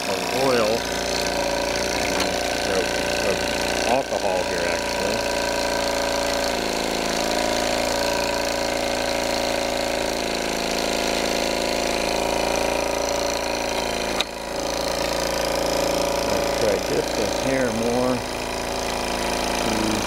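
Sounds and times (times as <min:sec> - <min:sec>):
model steam engine running: 0:00.0 - 0:20.0.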